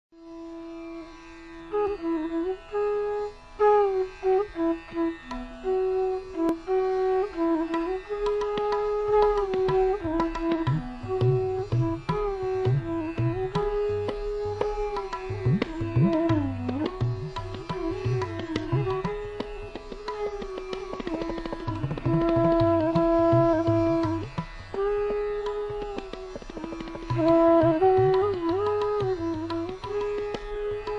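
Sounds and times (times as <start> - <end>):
sliding classical melody: 3.6 - 30.9.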